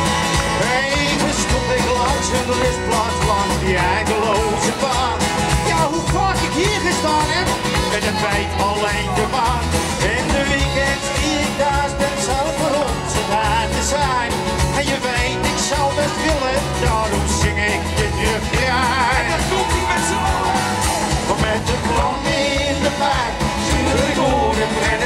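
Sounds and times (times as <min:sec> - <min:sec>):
acoustic guitar: 0:00.0 - 0:25.0
drums: 0:00.0 - 0:25.0
electric bass: 0:00.0 - 0:25.0
person singing: 0:00.0 - 0:25.0.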